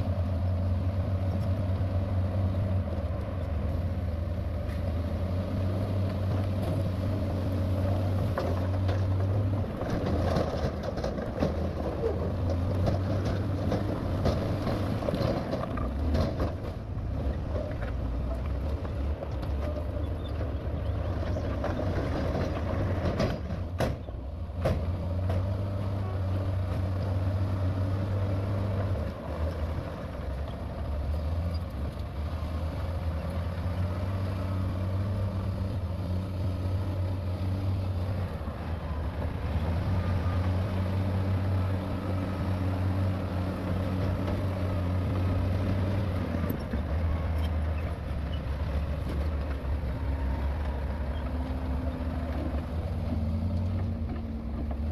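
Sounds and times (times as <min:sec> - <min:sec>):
heavy diesel machinery engine hum: 0:00.0 - 0:54.9.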